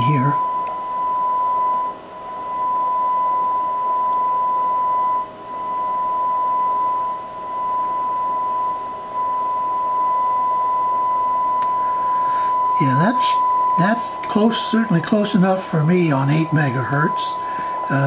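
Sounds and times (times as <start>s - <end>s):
steady test tone from speaker: 0.0s - 18.0s.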